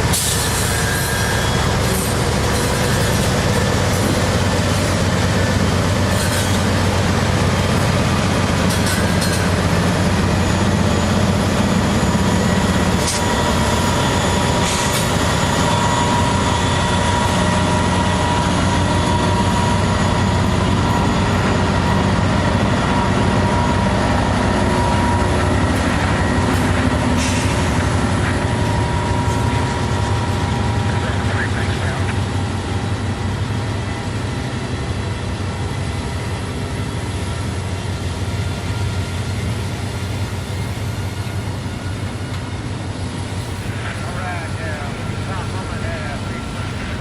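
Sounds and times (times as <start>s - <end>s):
freight train cars rolling: 0.0s - 47.0s.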